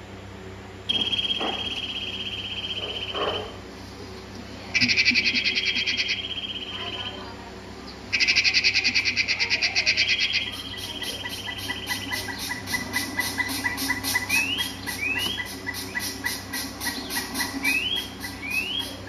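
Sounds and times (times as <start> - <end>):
faint low hum: 0.0 - 19.0
high rapid trilling animal calls: 0.9 - 3.6, 4.7 - 7.4, 8.0 - 19.0.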